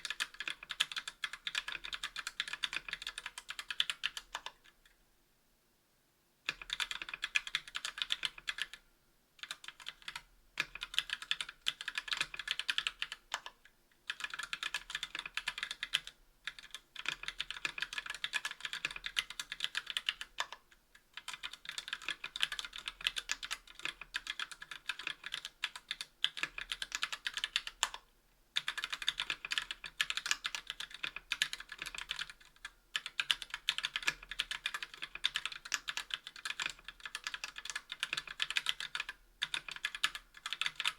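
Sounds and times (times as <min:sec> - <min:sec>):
mechanical keyboard typing: 0:00.0 - 0:04.8, 0:06.5 - 0:08.8, 0:09.4 - 0:40.9.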